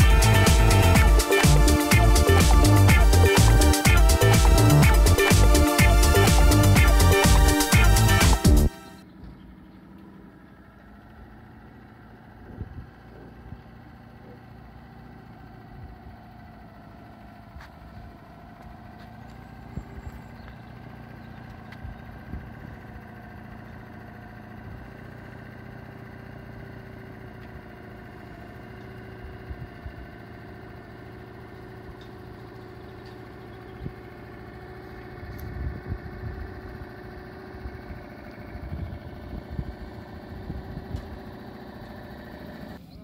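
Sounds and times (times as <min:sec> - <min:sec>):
outboard motor running: 0:00.0 - 0:43.0.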